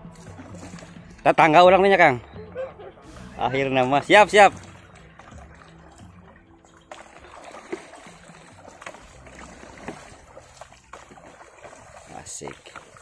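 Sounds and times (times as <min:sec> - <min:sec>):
lapping water: 0:00.0 - 0:13.0
paddles splashing in water: 0:00.0 - 0:13.0.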